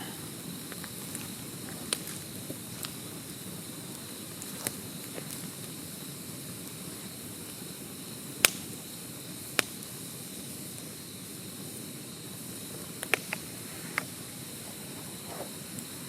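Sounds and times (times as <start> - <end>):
bonfire hissing and crackling: 0.0 - 16.0
fire pops: 0.0 - 16.0.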